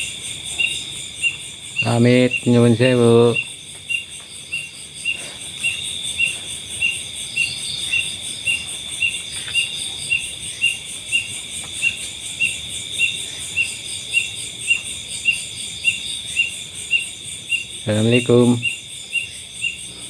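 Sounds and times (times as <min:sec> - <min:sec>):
cricket chirping: 0:00.0 - 0:20.0
night insects trilling: 0:00.0 - 0:20.0.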